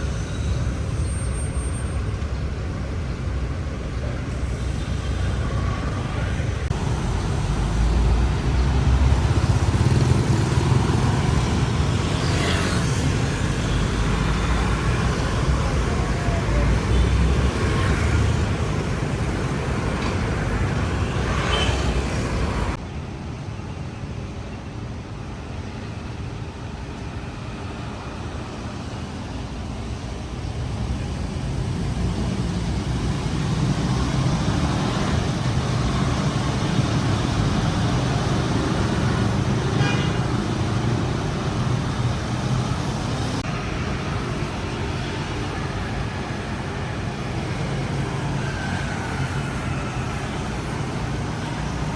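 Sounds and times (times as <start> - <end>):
city road traffic: 0.0 - 51.9.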